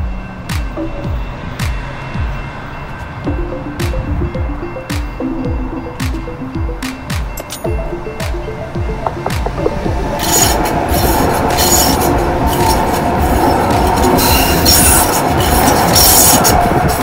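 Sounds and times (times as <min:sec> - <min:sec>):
light rail train passing: 0:00.0 - 0:17.0
steel wheels rumbling on rails: 0:00.0 - 0:17.0.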